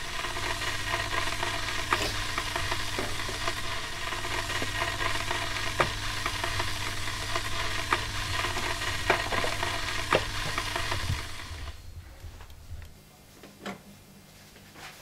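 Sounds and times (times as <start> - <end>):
electric kettle boiling: 0.0 - 12.6.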